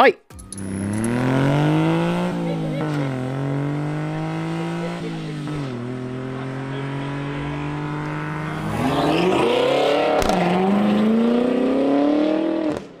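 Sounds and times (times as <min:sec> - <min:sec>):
car engine accelerating: 0:00.3 - 0:13.0.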